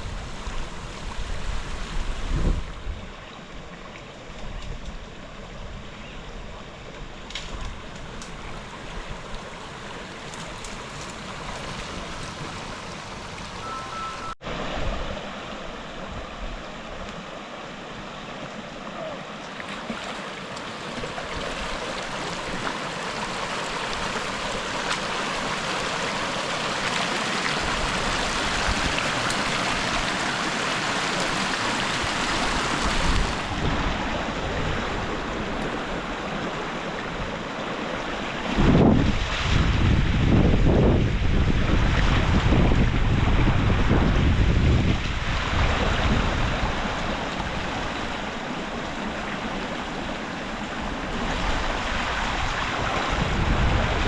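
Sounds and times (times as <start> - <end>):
flowing water rushing: 7.8 - 54.0.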